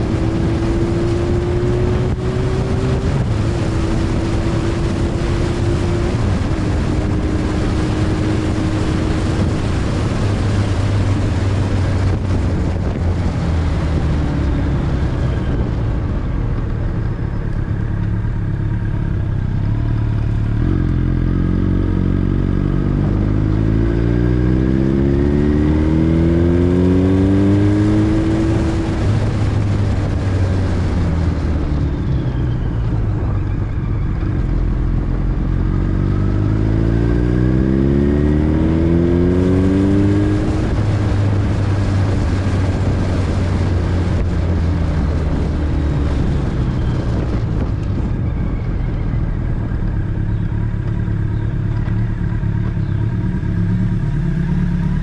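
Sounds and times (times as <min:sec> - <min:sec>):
wind noise on microphone: 0:00.0 - 0:53.0
motorcycle engine revving: 0:00.0 - 0:55.0.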